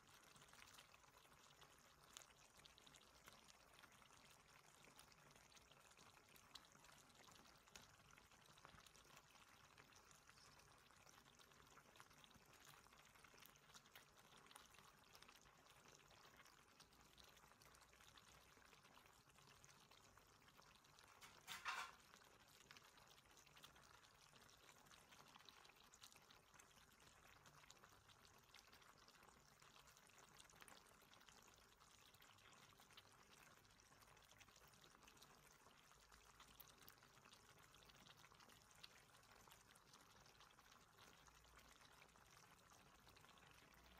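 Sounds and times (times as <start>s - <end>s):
sauce sizzling in a wok: 0.1s - 43.9s.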